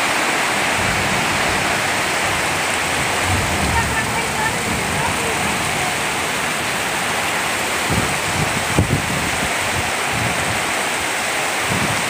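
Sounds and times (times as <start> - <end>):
heavy rain pouring: 0.0 - 12.0
low thuds: 0.3 - 10.7.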